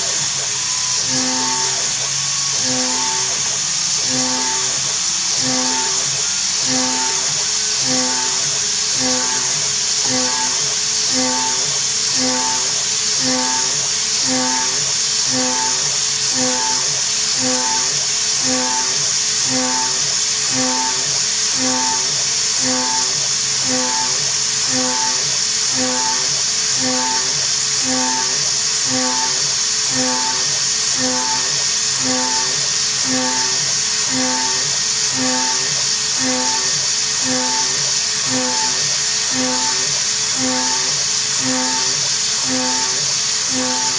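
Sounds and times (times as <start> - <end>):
milling spindle whine: 0.0 - 43.9.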